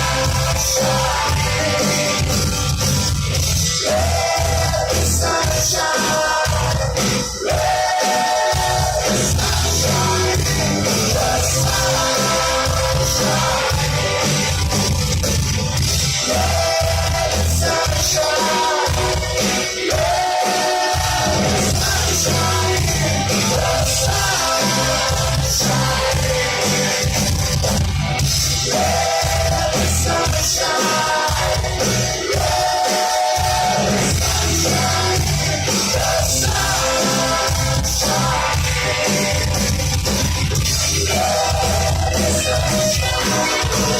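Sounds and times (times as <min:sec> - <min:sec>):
person singing: 0:00.0 - 0:02.7, 0:03.7 - 0:14.8, 0:16.2 - 0:27.3, 0:28.6 - 0:43.9
rock band bass and drums: 0:00.0 - 0:43.9.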